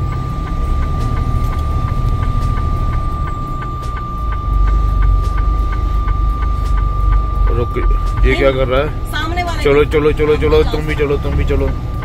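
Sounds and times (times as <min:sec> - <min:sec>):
light ticking: 0:00.0 - 0:12.0
steady high tone: 0:00.0 - 0:12.0
truck diesel engine rumbling: 0:00.0 - 0:12.0.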